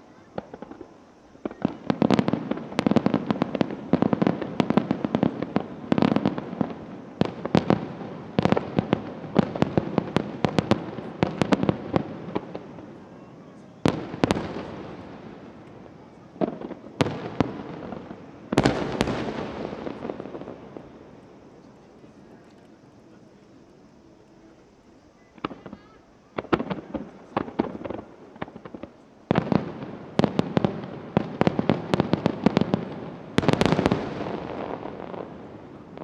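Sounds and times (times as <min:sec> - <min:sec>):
fireworks bursting: 0:00.0 - 0:36.0.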